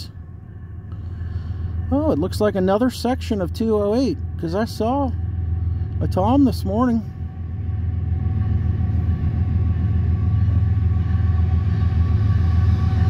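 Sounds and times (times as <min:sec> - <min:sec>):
diesel locomotive engine rumbling: 0:00.0 - 0:13.0.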